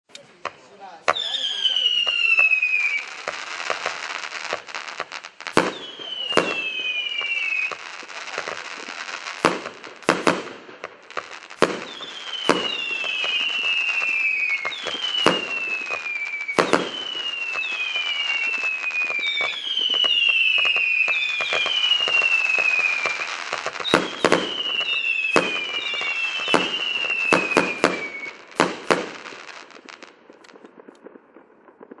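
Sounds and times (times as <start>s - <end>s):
firework crackling: 0.1s - 32.0s
firework bangs: 0.4s - 32.0s
firework whistles falling in pitch: 1.1s - 10.4s, 11.2s - 30.1s.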